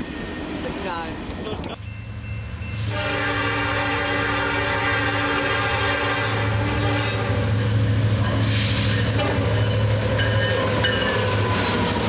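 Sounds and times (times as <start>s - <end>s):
diesel locomotive drone: 0.0s - 12.0s
train wheels rushing on rails: 0.0s - 12.0s.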